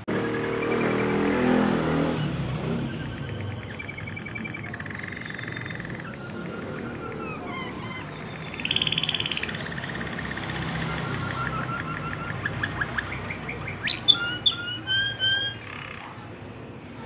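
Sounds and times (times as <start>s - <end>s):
canary singing trills: 0.0s - 16.5s.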